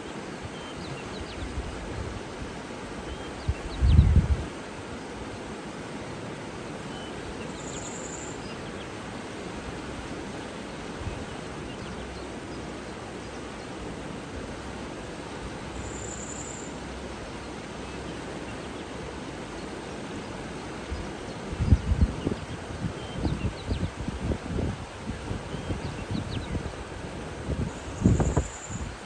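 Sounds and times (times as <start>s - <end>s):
flowing water: 0.0s - 29.0s.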